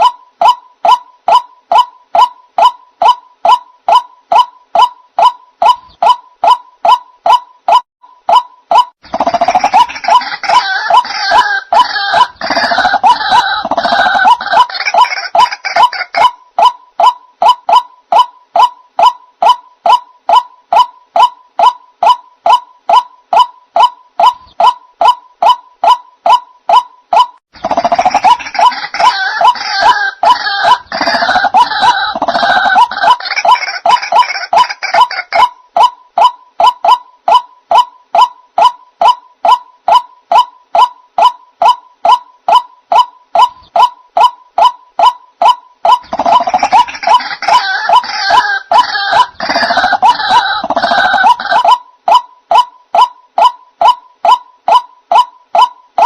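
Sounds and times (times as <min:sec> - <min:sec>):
waterhen calling: 0:00.0 - 0:56.0.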